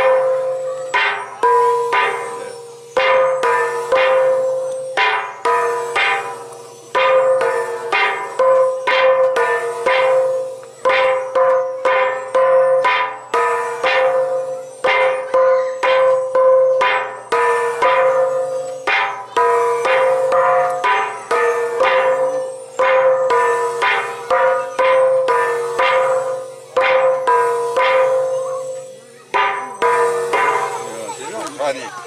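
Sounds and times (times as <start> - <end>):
gongs struck in rhythm: 0.0 - 32.0.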